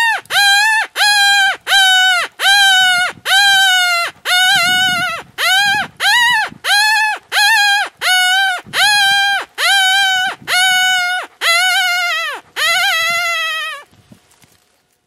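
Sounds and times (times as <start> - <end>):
wailing distress cries: 0.0 - 13.9.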